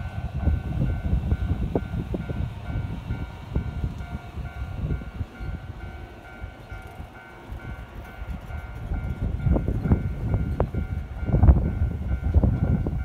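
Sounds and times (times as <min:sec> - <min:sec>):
electric train rumbling past: 0:00.0 - 0:13.0
level crossing warning bell: 0:00.0 - 0:13.0.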